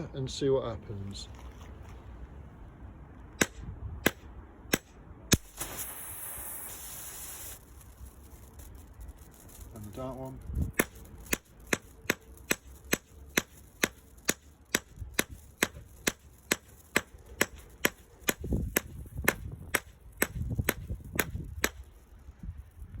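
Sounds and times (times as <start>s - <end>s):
hammer striking fuse strands: 3.4s - 22.1s.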